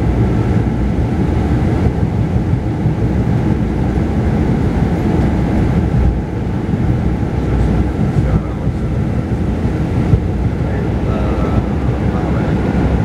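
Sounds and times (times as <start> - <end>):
bus engine and tyre rumble: 0.0 - 13.0.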